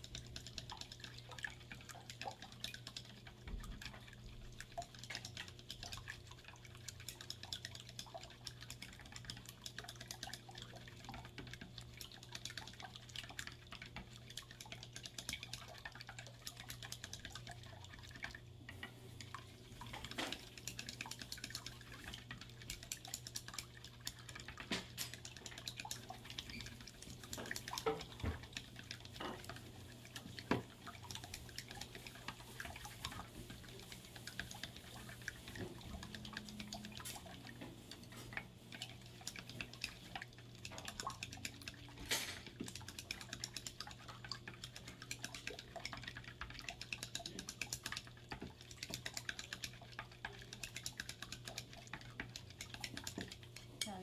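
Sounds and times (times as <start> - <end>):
chopsticks beating eggs in bowl: 0.0 - 54.0
egg sloshing: 0.0 - 54.0.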